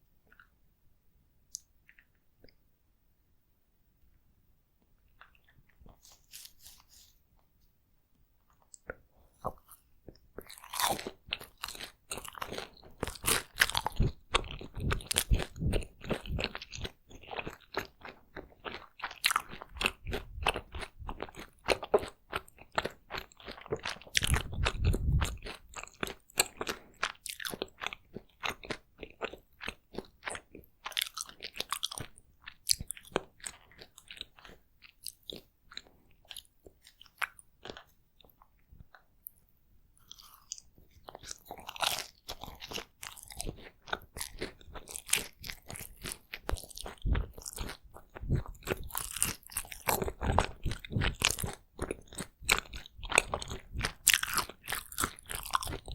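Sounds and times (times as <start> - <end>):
chewing with wet mouth clicks: 1.5 - 2.6, 8.5 - 39.4, 40.0 - 55.9.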